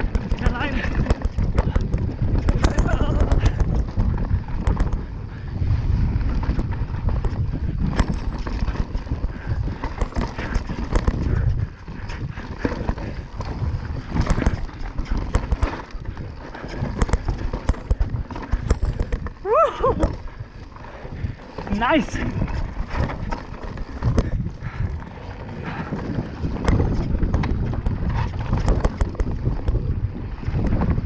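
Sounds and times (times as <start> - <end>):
bike rattling and knocking: 0.0 - 31.0
bike tyre rumble on gravel: 0.0 - 31.0
wind buffeting microphone: 0.0 - 31.0.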